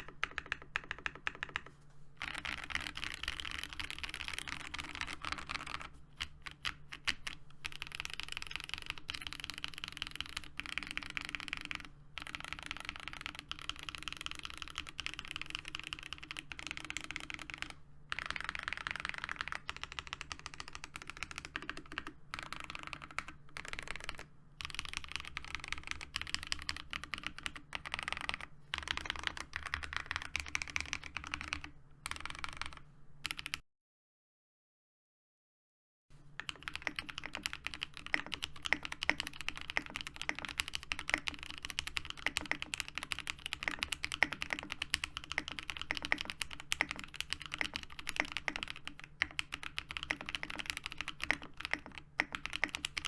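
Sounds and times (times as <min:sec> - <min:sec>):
mechanical keyboard keys clacking: 0:00.0 - 0:33.6, 0:36.4 - 0:53.0.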